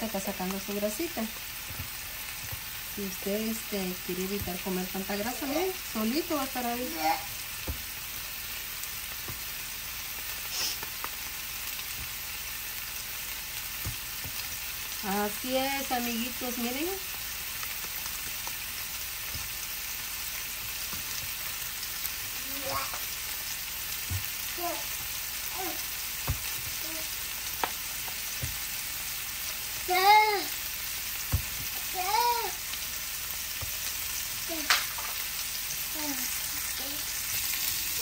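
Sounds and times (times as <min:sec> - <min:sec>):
meatballs sizzling in frying pan: 0:00.0 - 0:38.0.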